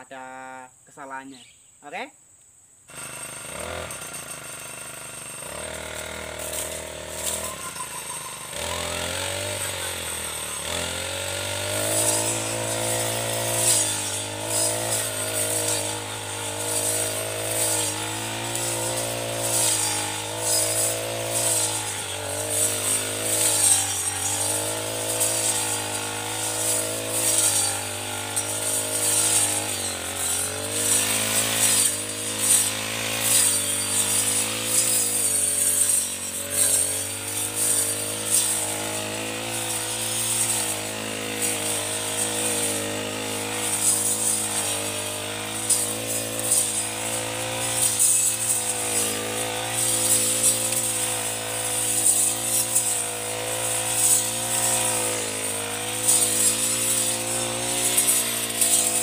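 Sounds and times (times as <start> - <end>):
brush cutter engine revving: 2.9 - 59.0
blade whirring through grass: 5.4 - 59.0.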